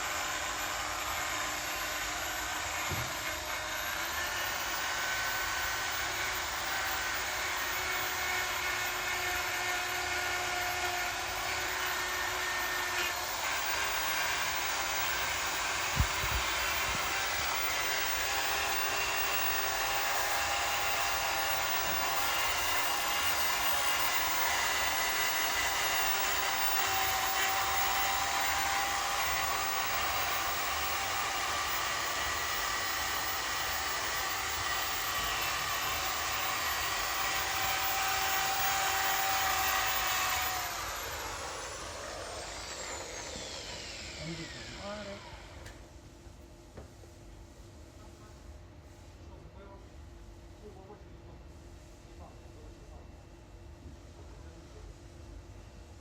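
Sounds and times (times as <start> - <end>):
electric sanding machine whining: 0.0 - 45.7.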